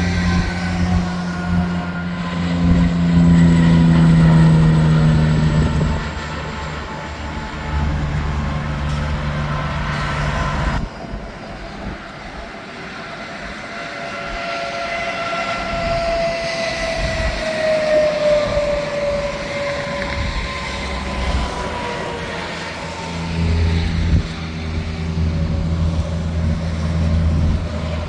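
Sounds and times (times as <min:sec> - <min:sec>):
truck passing by: 0:00.0 - 0:11.3, 0:14.6 - 0:28.0
steady low traffic hum: 0:00.0 - 0:28.0
whine sliding down in pitch: 0:00.0 - 0:28.0.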